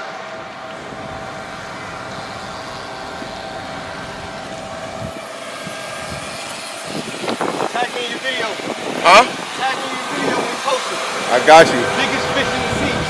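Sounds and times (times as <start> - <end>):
mid-pitched hum: 0.0 - 13.0
road traffic rushing: 0.0 - 13.0.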